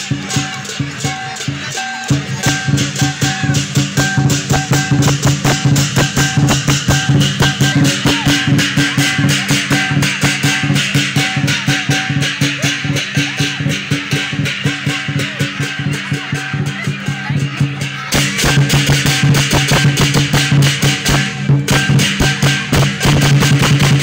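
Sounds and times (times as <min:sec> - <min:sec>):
big drum beating fast: 0:00.0 - 0:24.0
cymbals clashing: 0:00.0 - 0:24.0.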